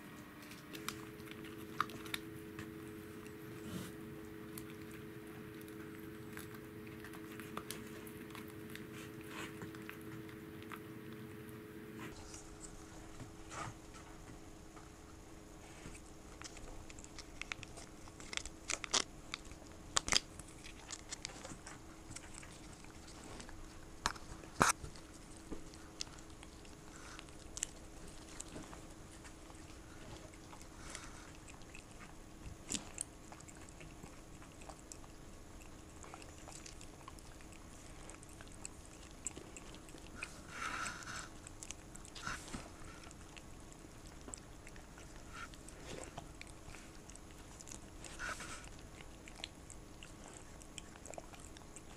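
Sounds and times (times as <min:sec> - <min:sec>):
cat licking and lapping: 0:00.4 - 0:51.9.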